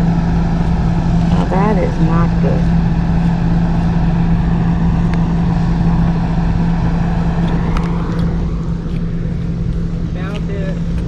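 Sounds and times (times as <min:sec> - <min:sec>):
machine drone with low hum: 0:00.0 - 0:11.0.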